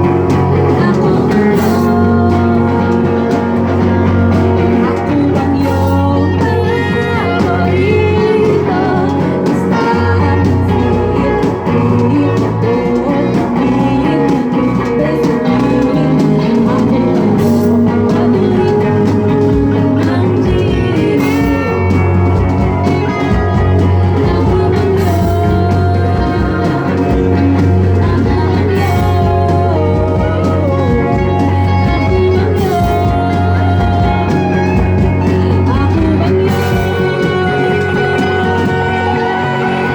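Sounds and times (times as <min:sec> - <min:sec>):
guitar: 0:00.0 - 0:39.9
live rock band playing: 0:00.0 - 0:39.9
steady bass line: 0:00.0 - 0:39.9.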